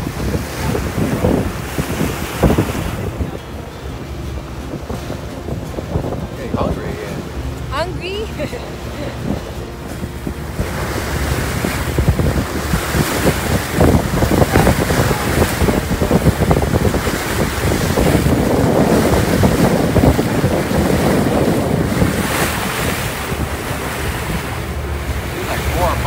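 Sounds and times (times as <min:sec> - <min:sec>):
boat engine drone: 0:00.0 - 0:26.0
water rushing past hull: 0:00.0 - 0:26.0
wind buffeting microphone: 0:00.0 - 0:26.0.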